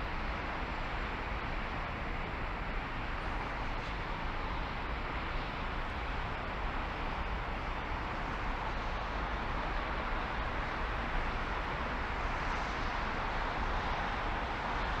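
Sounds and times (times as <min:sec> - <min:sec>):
road and wind hiss: 0:00.0 - 0:15.0.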